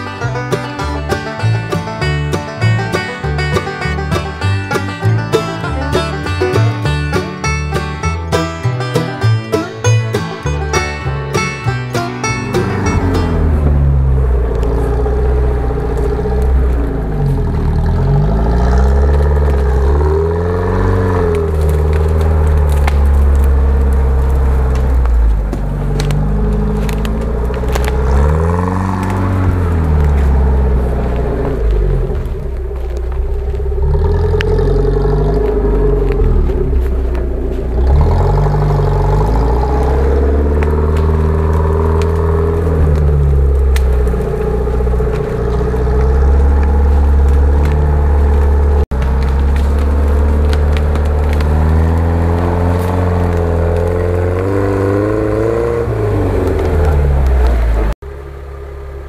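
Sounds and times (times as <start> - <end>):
branches crackling: 0.0 - 59.0
off-road vehicle engine revving: 0.0 - 59.0.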